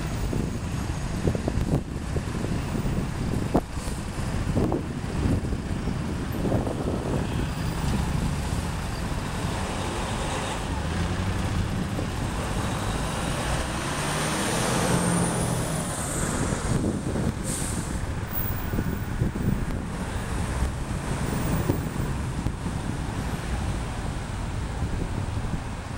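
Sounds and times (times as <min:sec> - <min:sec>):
street traffic: 0:00.0 - 0:25.9.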